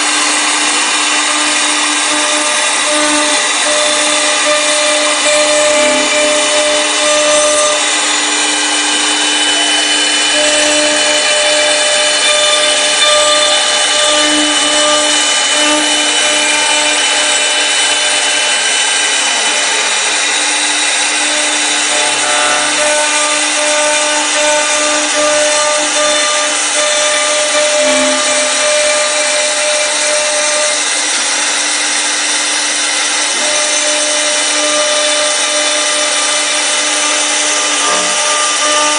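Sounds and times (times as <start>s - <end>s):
hiss of wood being cut: 0.0s - 38.9s
spindle whining: 0.0s - 38.9s.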